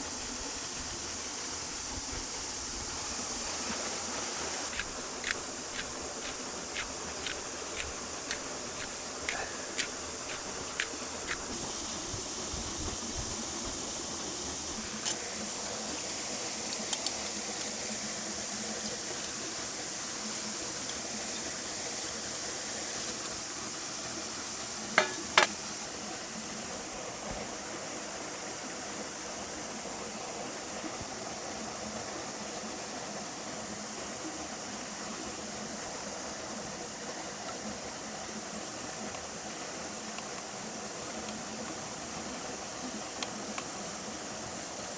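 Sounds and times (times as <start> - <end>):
steady hiss of campfire: 0.0 - 44.9.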